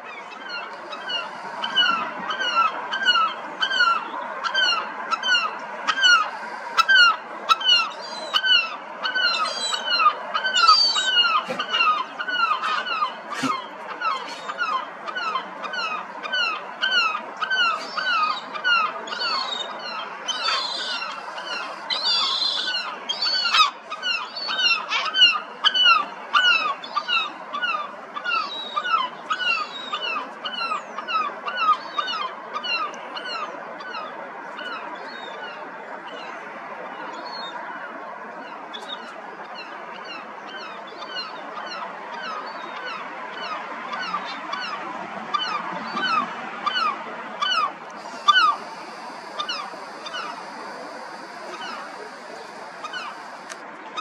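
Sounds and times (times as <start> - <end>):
birds calling: 0.0 - 36.4, 38.8 - 54.0.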